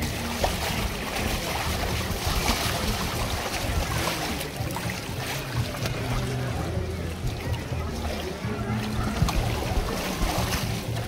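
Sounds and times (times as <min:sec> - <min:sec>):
water splashing in a pool: 0:00.0 - 0:11.0.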